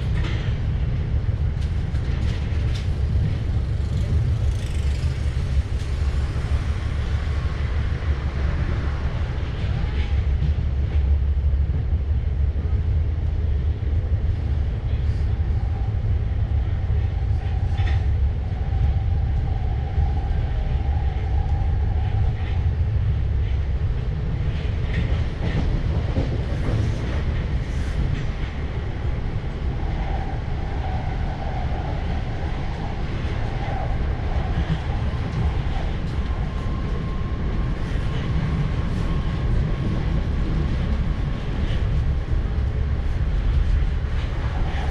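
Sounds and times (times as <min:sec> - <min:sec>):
train rumble inside carriage: 0:00.0 - 0:44.9.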